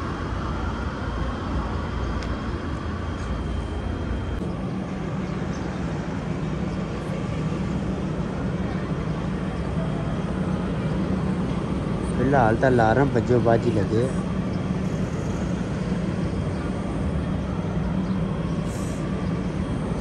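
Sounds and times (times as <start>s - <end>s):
city street traffic: 0.0s - 20.0s
low engine drone: 0.0s - 20.0s.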